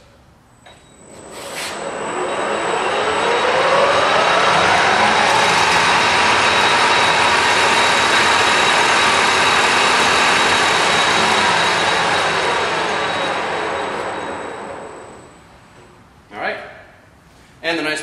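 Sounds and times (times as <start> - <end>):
high whine: 0.6 - 16.1
metal lathe whirring: 0.9 - 15.5.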